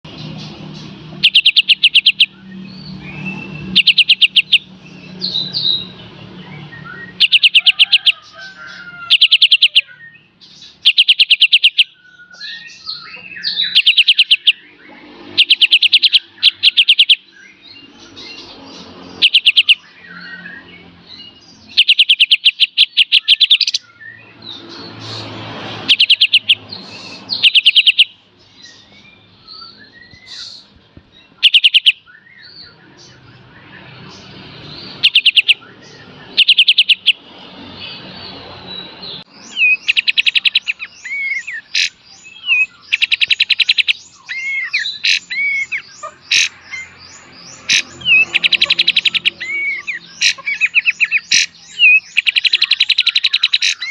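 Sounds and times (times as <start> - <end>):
bird chattering notes: 0.1 - 6.0, 6.6 - 8.4, 9.1 - 23.9, 24.5 - 29.0, 30.1 - 37.2, 39.4 - 53.9
songbird trilling: 0.2 - 53.9.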